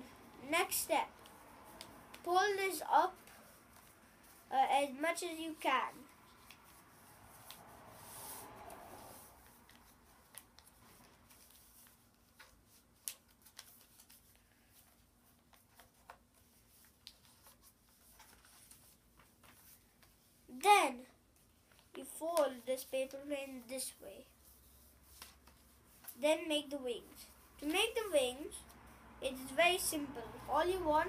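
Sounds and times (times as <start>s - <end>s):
paper being folded and creased: 0.4s - 20.5s, 21.2s - 28.3s.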